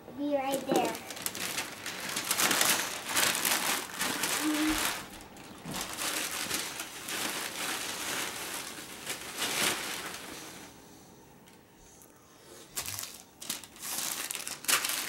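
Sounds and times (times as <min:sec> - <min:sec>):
plastic bag rustling: 0:00.2 - 0:10.8, 0:12.6 - 0:15.0.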